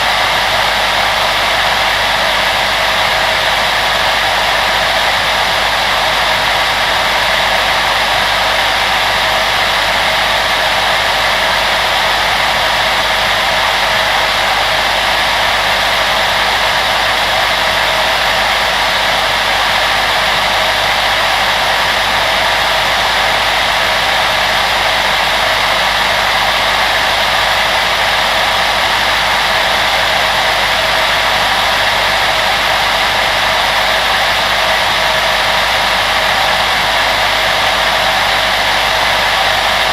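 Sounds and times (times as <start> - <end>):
electric blower fan running: 0.0 - 39.9.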